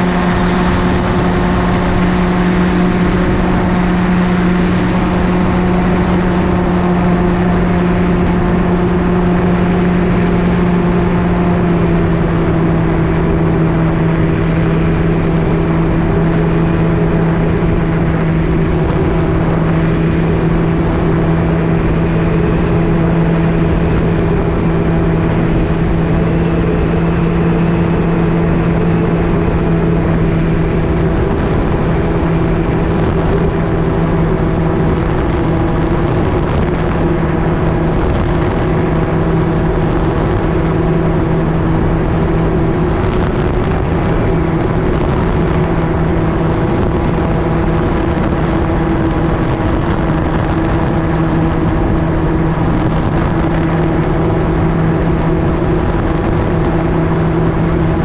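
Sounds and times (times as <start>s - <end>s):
aircraft engine and propeller: 0.0s - 58.0s
wind noise: 0.0s - 58.0s.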